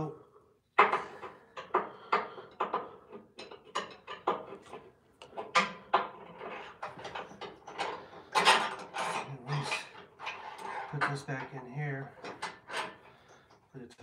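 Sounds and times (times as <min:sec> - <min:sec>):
metal parts clinking and knocking: 0:00.8 - 0:11.5, 0:12.1 - 0:13.3.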